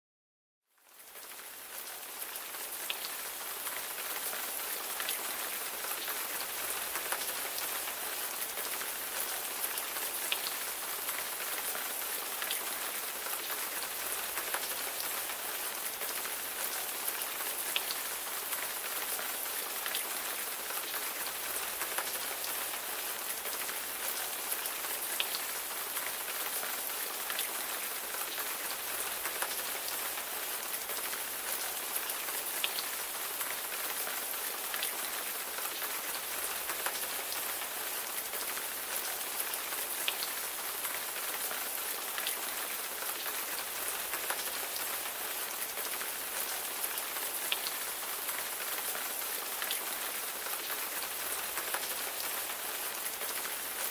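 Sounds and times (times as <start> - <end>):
rain falling: 0.7 - 53.9.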